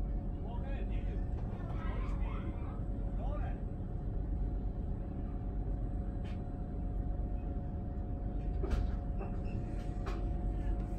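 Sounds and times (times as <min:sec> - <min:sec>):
train carriage rumble: 0:00.0 - 0:10.9.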